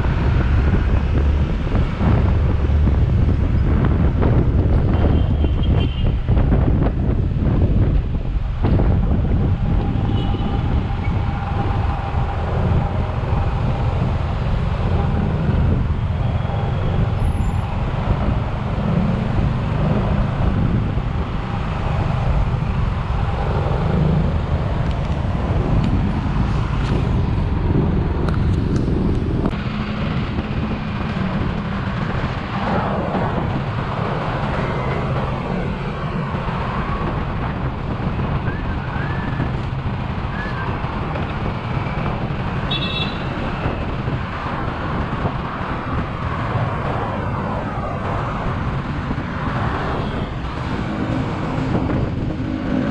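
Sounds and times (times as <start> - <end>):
road and traffic noise: 0.0 - 52.9.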